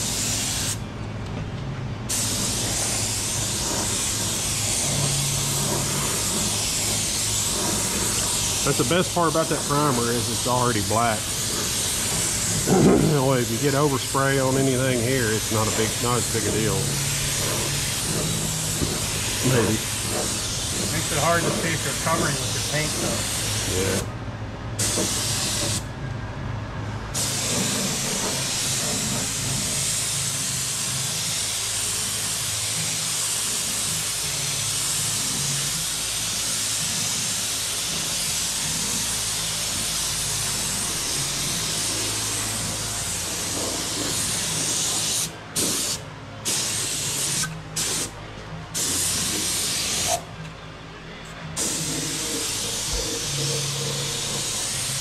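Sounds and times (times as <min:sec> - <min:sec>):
spray gun hissing: 0:00.0 - 0:00.8, 0:02.1 - 0:24.1, 0:24.8 - 0:25.8, 0:27.2 - 0:48.1, 0:48.8 - 0:50.2, 0:51.6 - 0:55.0.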